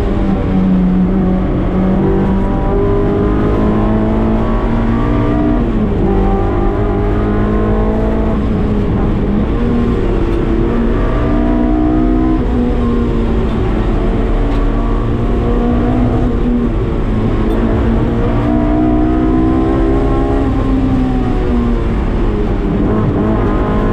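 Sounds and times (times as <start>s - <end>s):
car engine revving through gears: 0.0s - 23.9s
road and wind rumble: 0.0s - 23.9s.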